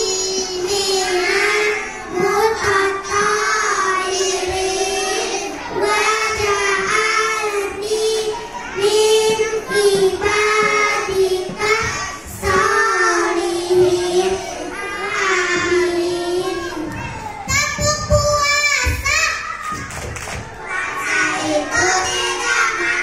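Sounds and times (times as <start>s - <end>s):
children singing in unison: 0.0s - 23.0s.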